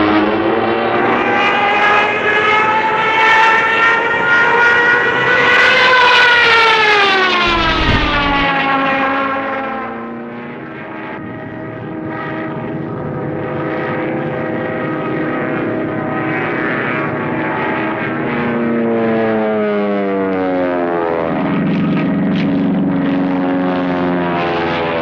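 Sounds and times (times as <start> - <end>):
propeller plane flying past: 0.0 - 25.0.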